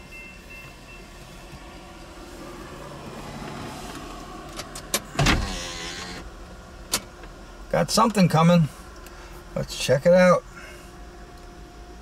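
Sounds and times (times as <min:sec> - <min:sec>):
low vehicle rumble: 0:00.0 - 0:09.7.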